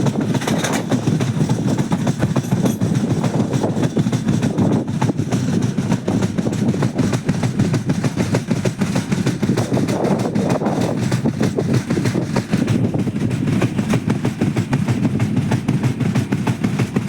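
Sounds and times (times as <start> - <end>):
train rumbling: 0.0 - 17.0
train wheels clattering over rails: 0.0 - 17.0.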